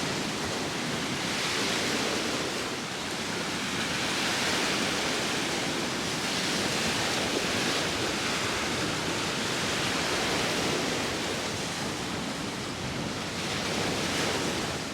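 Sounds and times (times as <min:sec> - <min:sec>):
sea waves washing on shore: 0:00.0 - 0:14.9
wind: 0:00.0 - 0:14.9.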